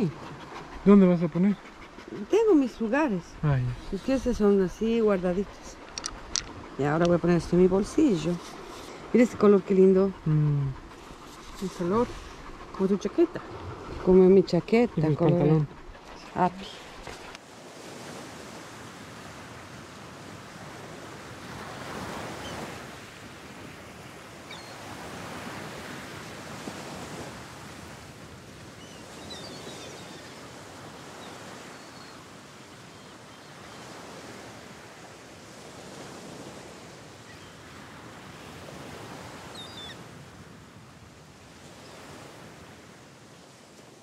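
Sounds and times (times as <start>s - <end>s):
wind: 0.0s - 44.0s.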